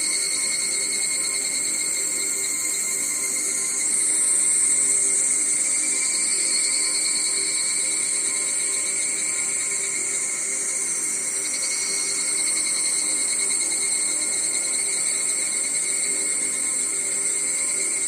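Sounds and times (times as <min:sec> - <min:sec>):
insects buzzing chorus: 0:00.0 - 0:18.0.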